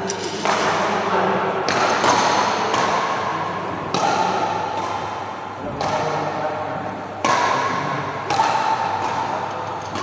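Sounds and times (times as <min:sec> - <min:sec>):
racket hitting shuttlecock: 0:00.1 - 0:01.0, 0:01.6 - 0:06.4, 0:07.2 - 0:10.0.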